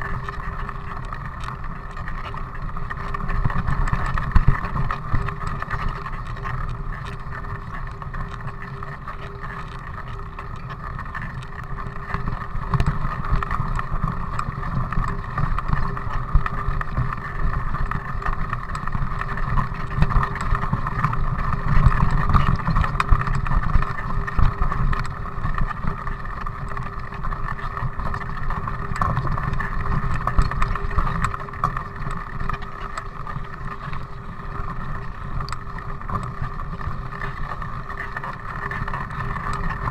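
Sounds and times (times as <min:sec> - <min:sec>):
bike rolling over gravel: 0:00.0 - 0:39.9
constant hum: 0:00.0 - 0:39.9.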